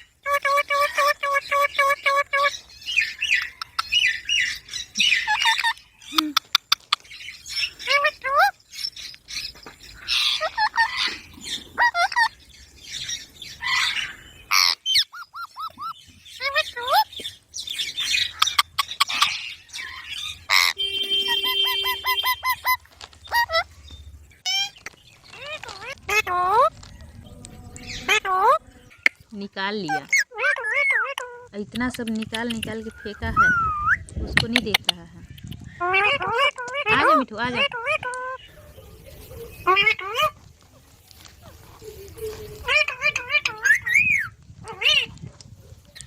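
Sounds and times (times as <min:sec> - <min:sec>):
parrot chirping and squawking: 0:00.0 - 0:23.8, 0:24.4 - 0:26.8, 0:27.8 - 0:29.2, 0:29.8 - 0:31.5, 0:35.4 - 0:40.4, 0:42.6 - 0:45.3.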